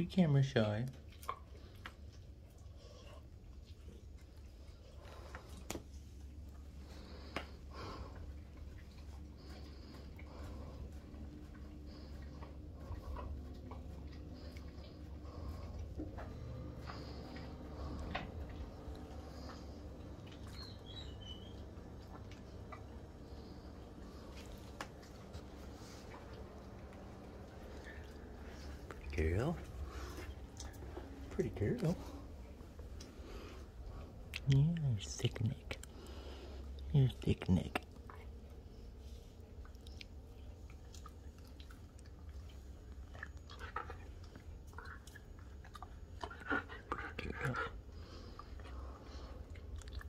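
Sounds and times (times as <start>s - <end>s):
low steady hum: 0.0s - 50.0s
dog licking wet clicks: 0.6s - 50.0s.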